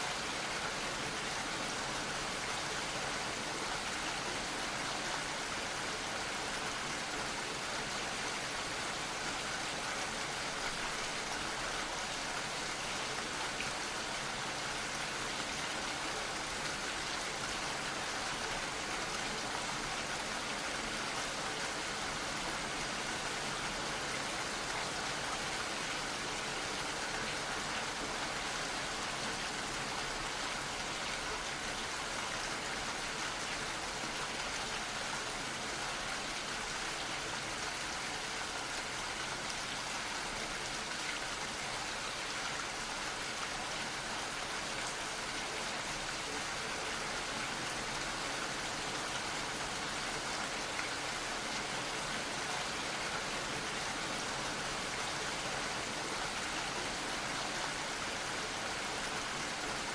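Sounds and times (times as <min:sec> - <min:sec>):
gentle rain pattering: 0:00.0 - 0:59.9.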